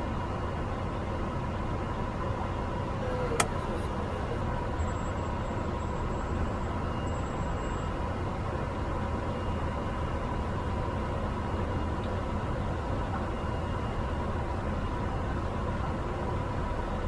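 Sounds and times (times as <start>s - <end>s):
turboprop engine drone: 0.0s - 17.0s.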